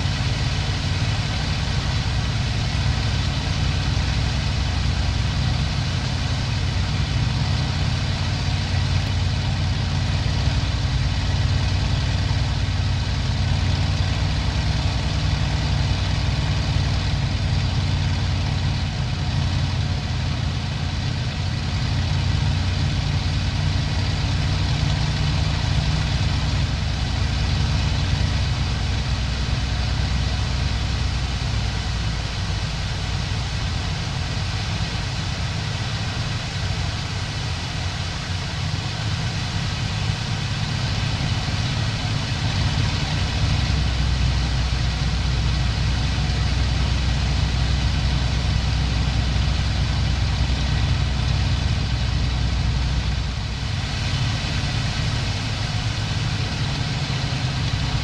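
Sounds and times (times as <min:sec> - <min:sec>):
aircraft engine running in cockpit: 0:00.0 - 0:58.0.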